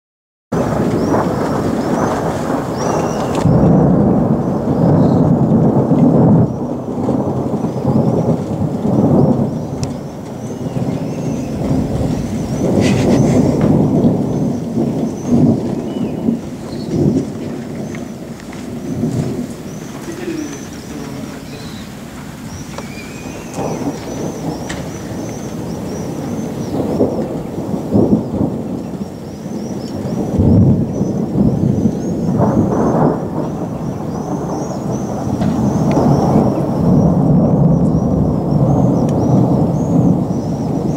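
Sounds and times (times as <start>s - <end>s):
rain: 0.5s - 40.9s
rolling thunder: 0.5s - 40.9s.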